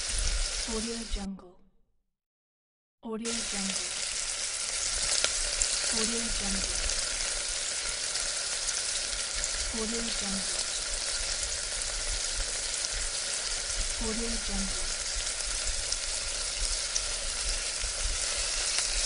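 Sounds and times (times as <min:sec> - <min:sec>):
food deep frying in oil: 0:00.0 - 0:01.0, 0:03.3 - 0:19.0.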